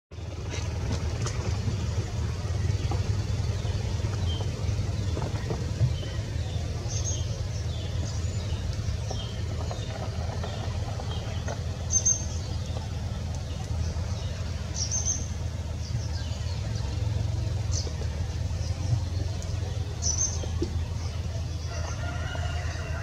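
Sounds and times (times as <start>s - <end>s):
steady low rumble: 0.1s - 23.0s.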